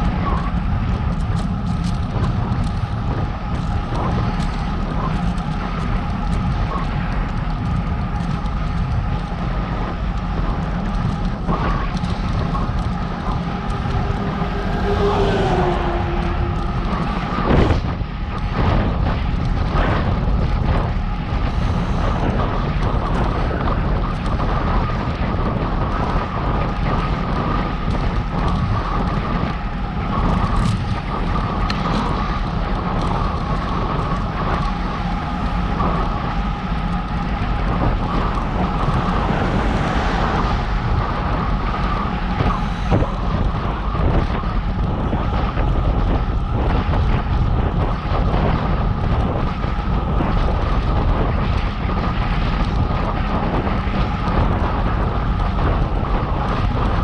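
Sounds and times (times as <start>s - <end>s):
steady low rumble: 0.0s - 57.0s
wind rushing over microphone: 0.0s - 57.0s.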